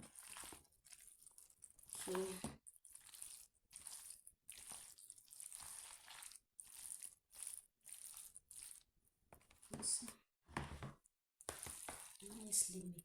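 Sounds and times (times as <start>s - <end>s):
spoon stirring pasta: 0.0s - 10.1s, 10.7s - 13.0s.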